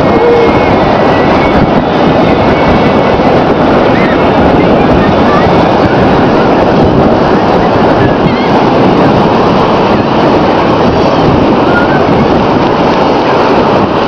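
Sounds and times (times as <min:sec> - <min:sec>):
breaking surf: 0:00.0 - 0:14.0
wind buffeting microphone: 0:00.0 - 0:14.0.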